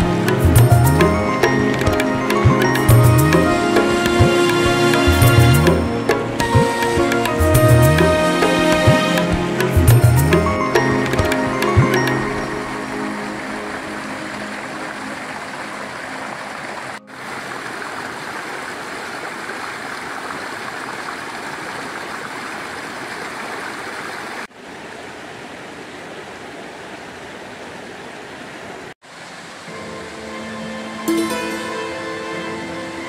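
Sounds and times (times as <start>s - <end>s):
stream running over stones: 0.0s - 30.3s.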